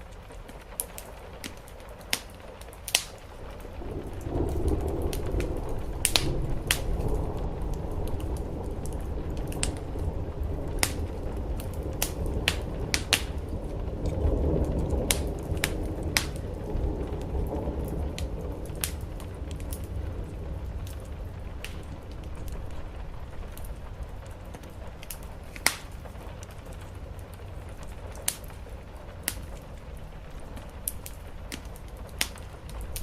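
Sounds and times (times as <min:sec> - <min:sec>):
rain on a roof: 0:00.0 - 0:33.0
wood fire crackling: 0:00.0 - 0:33.0.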